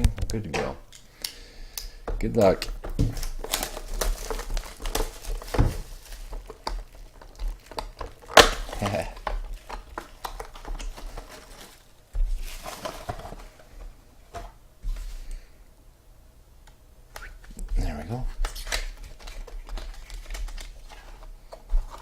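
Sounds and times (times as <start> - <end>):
rustling of wrapping and cardboard: 2.1 - 15.5, 17.3 - 22.0.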